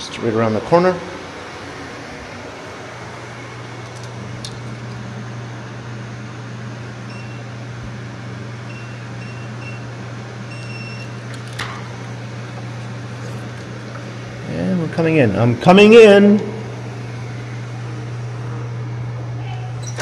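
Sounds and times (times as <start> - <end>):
ventilation hum: 0.0 - 20.0.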